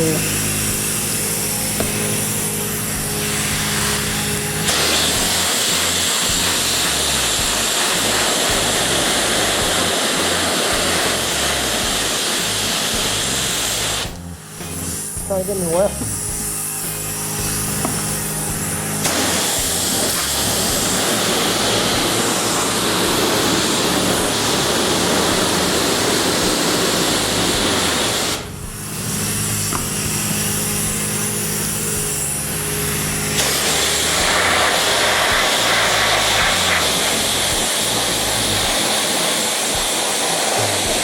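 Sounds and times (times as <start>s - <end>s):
pressure washer spray hissing: 0.0s - 41.0s.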